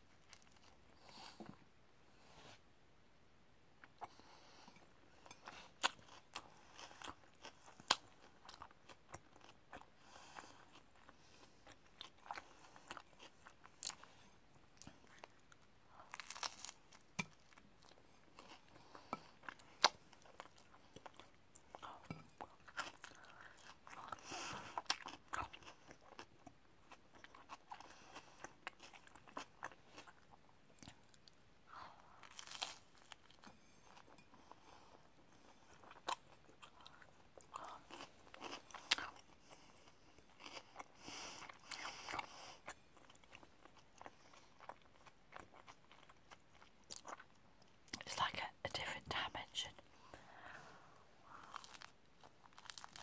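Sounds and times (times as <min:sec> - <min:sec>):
chewing crisp bread: 0:00.1 - 0:01.6, 0:03.8 - 0:53.0.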